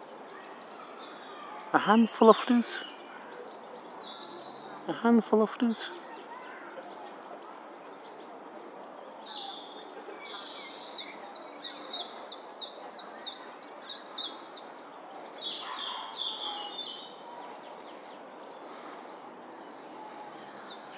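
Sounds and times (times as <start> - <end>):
steady background noise: 0.0 - 20.9.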